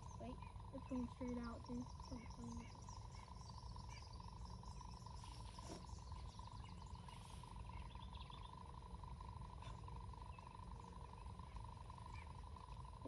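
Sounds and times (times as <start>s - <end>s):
insect drone: 0.0s - 13.0s
insects chirping: 0.0s - 13.0s.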